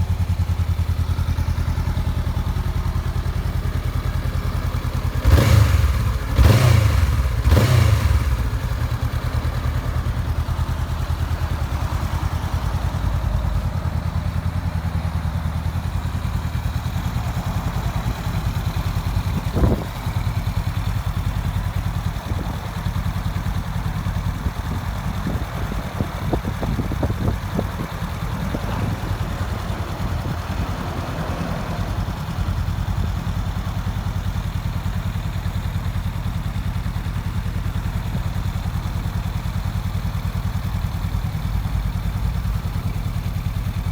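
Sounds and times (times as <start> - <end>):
motorcycle engine revving and idling: 0.0 - 43.9.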